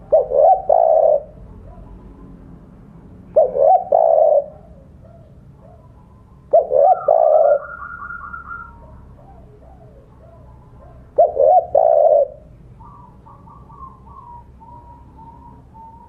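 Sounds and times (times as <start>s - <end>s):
dove cooing: 0.0s - 2.6s, 3.2s - 16.0s
faint bird calls: 0.0s - 2.6s, 3.3s - 16.0s.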